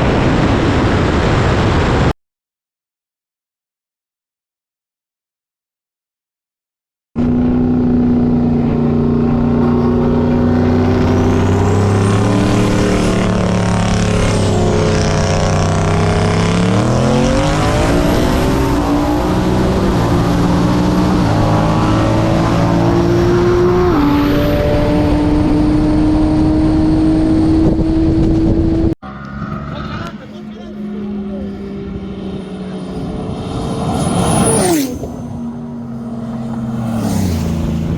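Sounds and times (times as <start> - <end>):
high turbo whine: 0.0 - 2.1, 7.2 - 37.9
car engine accelerating: 7.2 - 37.9.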